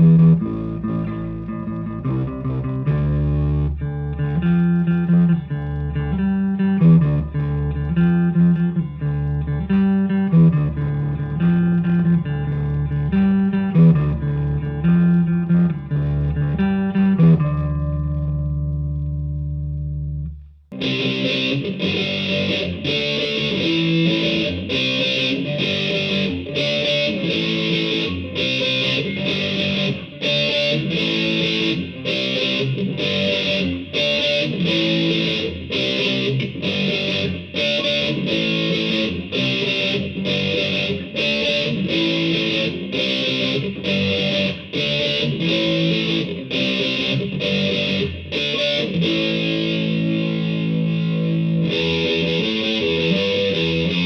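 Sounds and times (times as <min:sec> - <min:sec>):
distorted electric guitar riff: 0:00.0 - 0:54.0.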